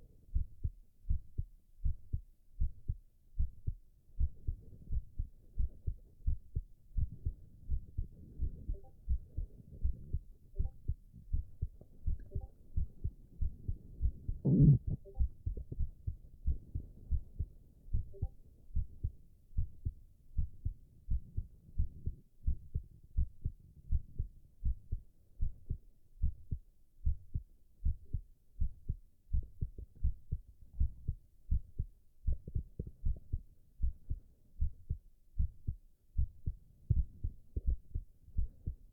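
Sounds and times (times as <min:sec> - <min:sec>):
heartbeat: 0:00.0 - 0:38.9.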